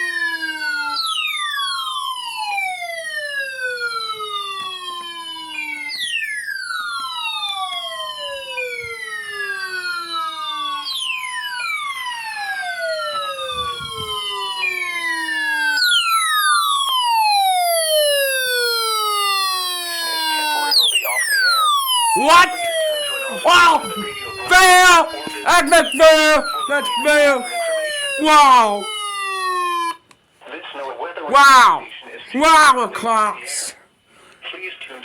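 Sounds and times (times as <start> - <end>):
electronic siren alarm tone: 0.0 - 30.1.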